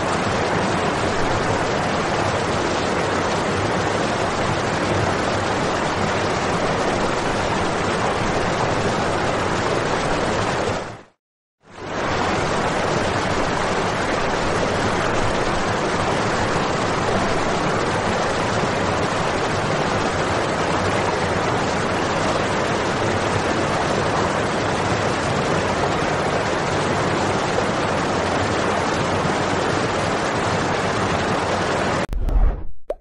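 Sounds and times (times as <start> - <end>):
fountain water splashing: 0.0 - 11.0, 11.7 - 32.0.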